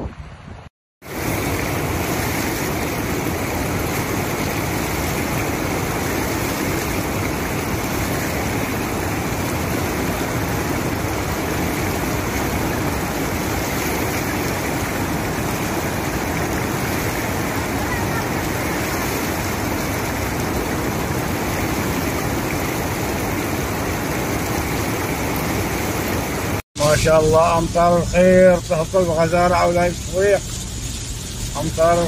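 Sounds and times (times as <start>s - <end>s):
floodwater rushing over a weir: 1.0s - 32.0s.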